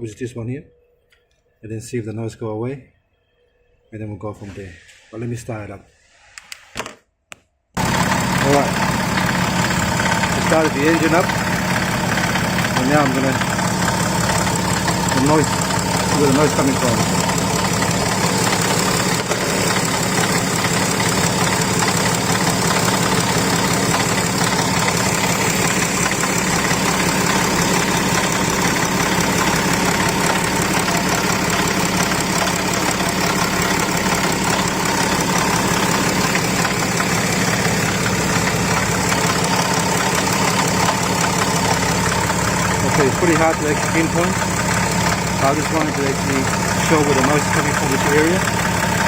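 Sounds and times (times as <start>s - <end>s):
car engine idling: 7.8s - 49.0s
rotational noise from engine: 7.8s - 49.0s.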